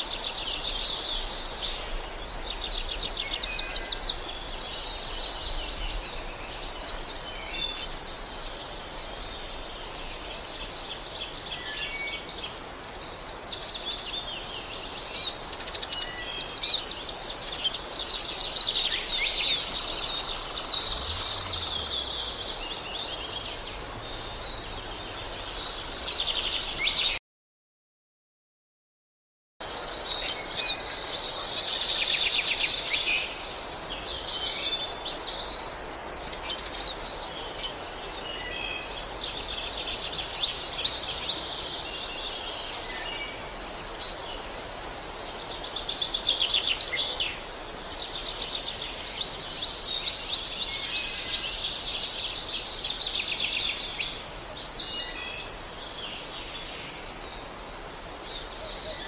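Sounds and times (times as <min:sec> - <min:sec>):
many small birds chirping: 0:00.0 - 0:27.2, 0:29.6 - 0:59.0.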